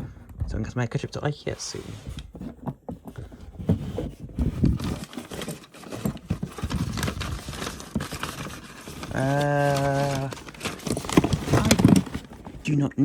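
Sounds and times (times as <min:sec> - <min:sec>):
household items knocking and clattering: 0:02.0 - 0:12.7.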